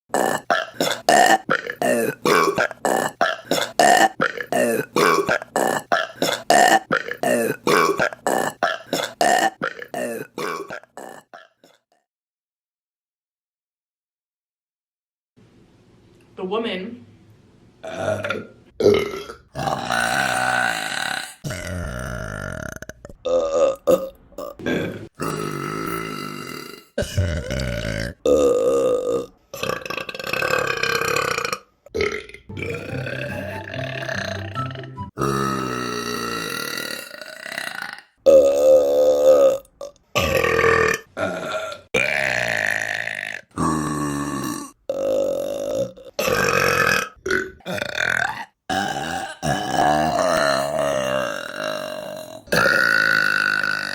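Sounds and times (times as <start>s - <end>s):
women burping: 0.1s - 11.5s, 17.8s - 34.6s, 35.2s - 39.6s, 40.2s - 53.9s.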